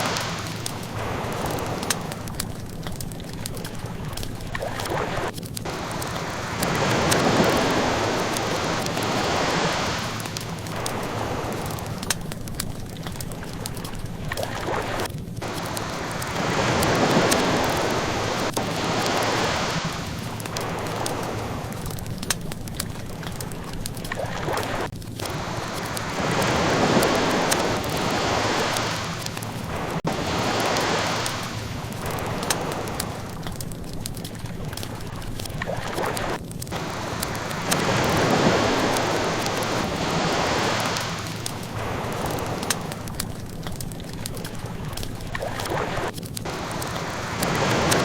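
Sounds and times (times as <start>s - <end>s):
ocean waves washing ashore: 0.0s - 48.0s
wood fire crackling: 0.0s - 48.0s.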